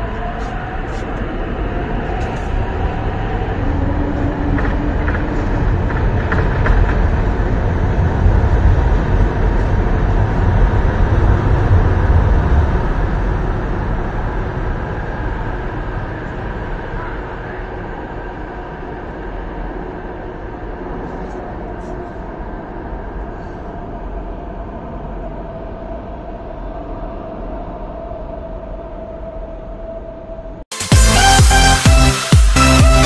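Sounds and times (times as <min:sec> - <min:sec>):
train motors and wheels running: 0:00.0 - 0:30.6.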